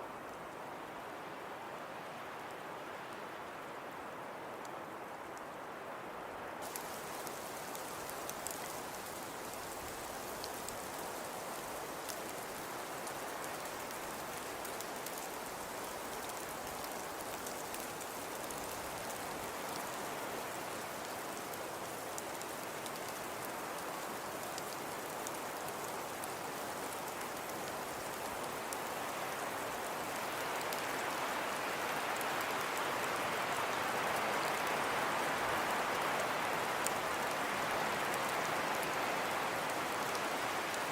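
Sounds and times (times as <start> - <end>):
precipitation pattering hiss: 6.6 - 40.9.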